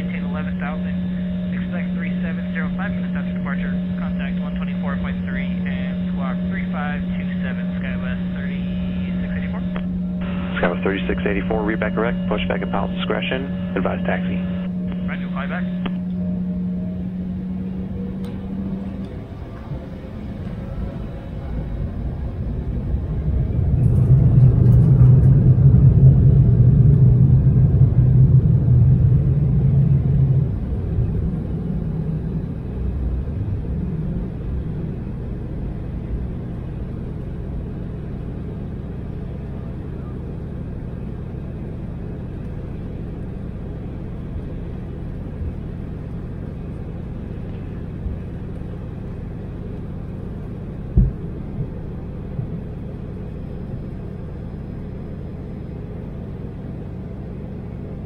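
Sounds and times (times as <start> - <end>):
airliner takeoff rumble: 0.0 - 58.0
jet drone: 0.0 - 58.0.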